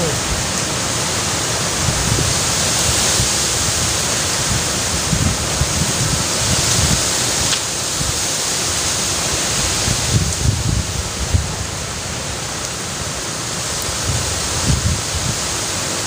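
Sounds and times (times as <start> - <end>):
wind buffeting microphone: 0.0 - 12.1, 13.8 - 15.6.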